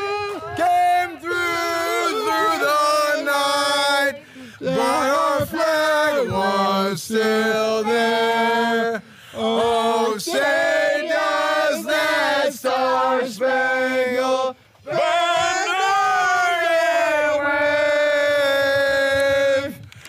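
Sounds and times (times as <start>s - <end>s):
voices singing slow melody: 0.0s - 19.8s.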